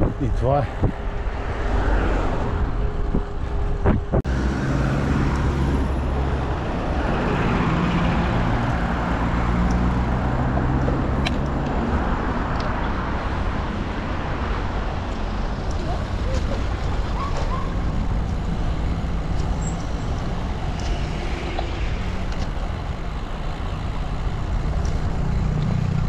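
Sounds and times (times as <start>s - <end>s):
road traffic noise: 0.0s - 26.0s
vehicle engine humming nearby: 0.0s - 26.0s.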